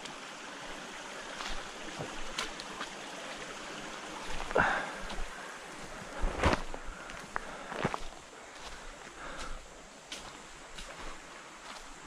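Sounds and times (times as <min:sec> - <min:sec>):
creek running over rocks: 0:00.0 - 0:12.0
footsteps: 0:01.3 - 0:12.0.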